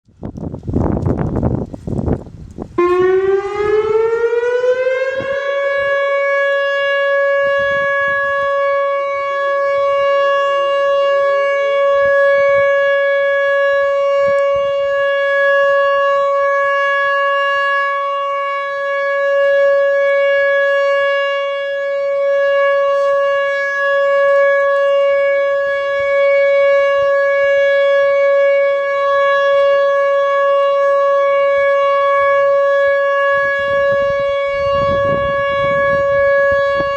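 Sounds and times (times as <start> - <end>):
electronic warning siren steady tone: 0.1 - 36.9.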